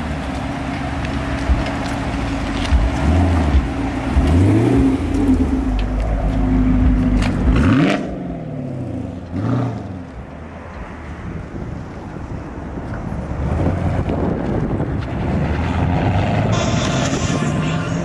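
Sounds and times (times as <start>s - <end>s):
car engine revving: 0.0s - 10.2s, 13.4s - 18.0s.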